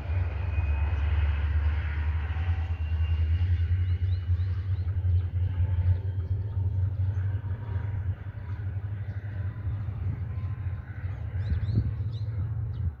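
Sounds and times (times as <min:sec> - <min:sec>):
low rumble of passenger train: 0:00.0 - 0:13.0.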